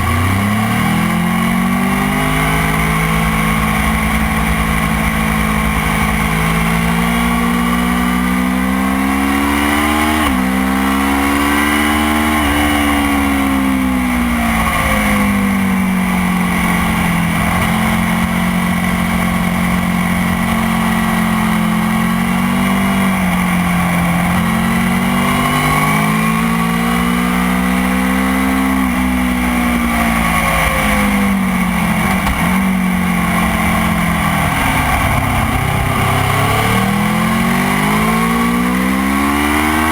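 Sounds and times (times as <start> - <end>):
motorcycle engine racing: 0.0 - 39.9.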